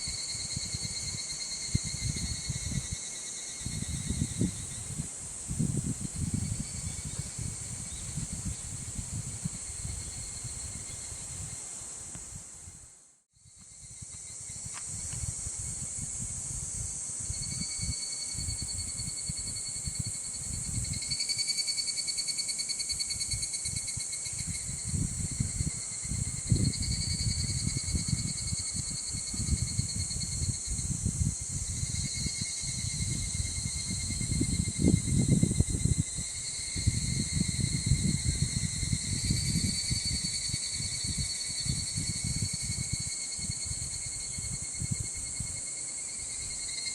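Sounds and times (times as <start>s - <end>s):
wind buffeting microphone: 0.0s - 3.0s, 3.6s - 12.8s, 13.8s - 21.1s, 23.3s - 45.6s
insect trill: 0.0s - 46.9s
insects chirring: 0.0s - 46.9s.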